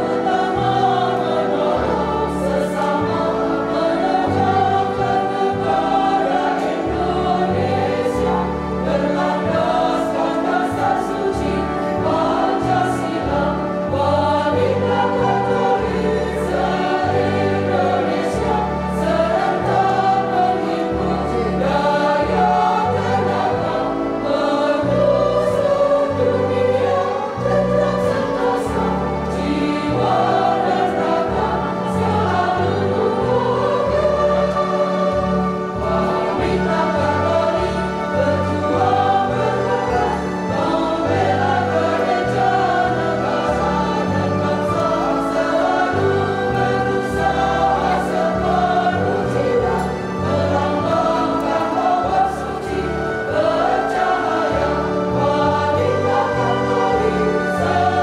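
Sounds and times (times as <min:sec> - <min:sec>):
women's choir singing a hymn: 0:00.0 - 0:58.0.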